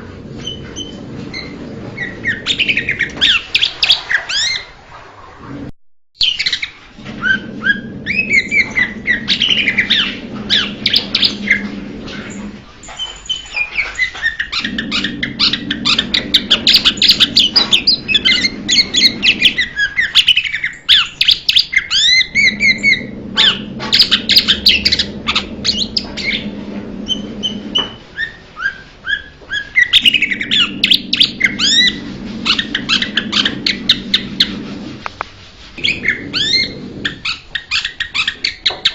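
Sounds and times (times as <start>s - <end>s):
low steady hum: 0.0s - 4.3s, 6.9s - 20.0s, 22.1s - 28.4s, 29.8s - 37.5s.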